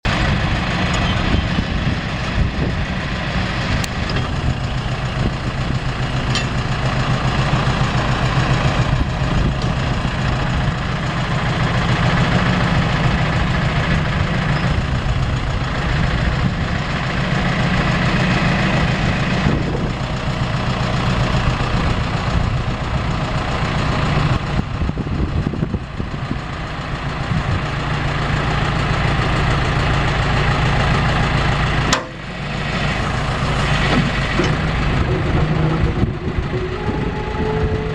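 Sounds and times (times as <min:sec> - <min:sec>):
backhoe engine running: 0:00.0 - 0:37.9.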